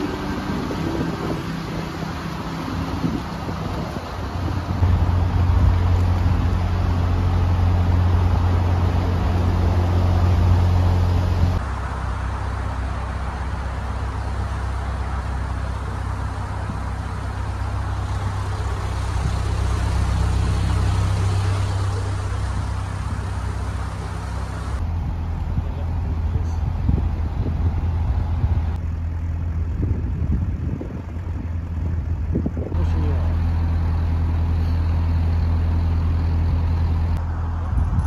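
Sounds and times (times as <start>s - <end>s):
boat engine running at low revs: 0.0s - 38.0s.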